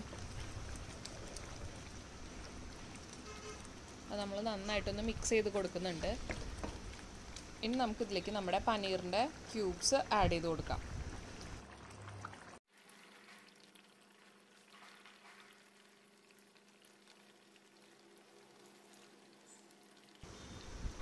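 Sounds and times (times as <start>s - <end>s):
gravy bubbling in a pan: 0.0s - 21.0s.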